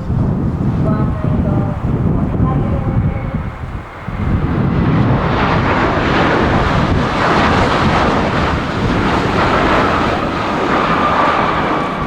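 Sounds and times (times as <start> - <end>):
jet engine whine: 0.0 - 12.0
jet engines running: 0.0 - 12.0
wind buffeting microphone: 0.0 - 12.0.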